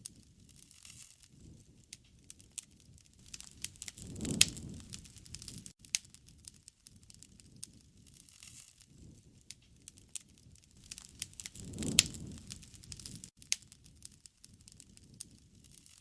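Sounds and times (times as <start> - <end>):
bonfire crackling: 0.0 - 16.0
fire popping: 0.0 - 16.0.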